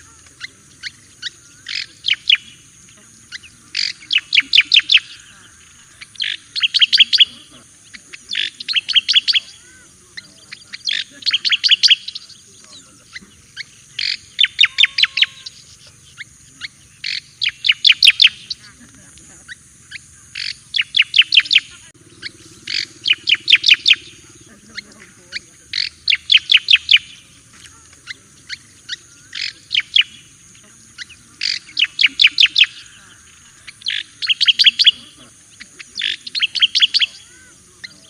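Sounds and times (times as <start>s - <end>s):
bird chirping rapidly: 0.0s - 38.0s.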